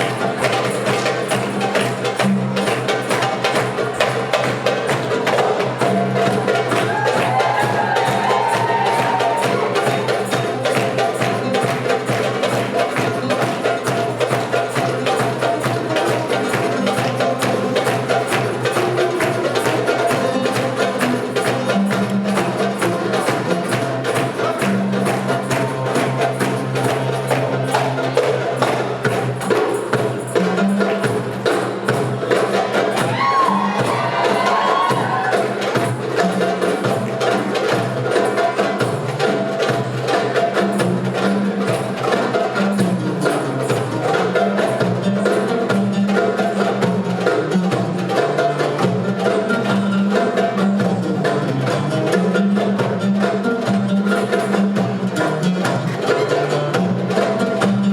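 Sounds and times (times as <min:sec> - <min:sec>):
hand drums playing fast rhythm: 0:00.0 - 0:57.9.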